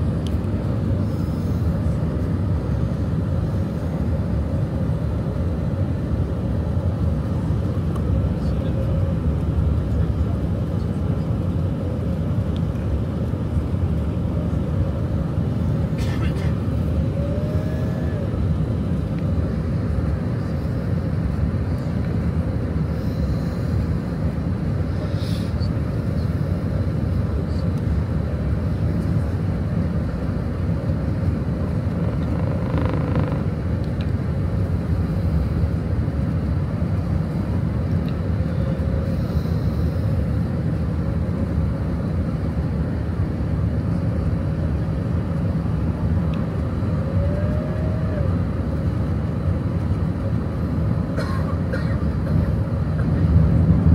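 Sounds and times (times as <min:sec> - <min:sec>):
engine and airflow rumble: 0:00.0 - 0:53.9
faint steady whine: 0:00.0 - 0:53.9.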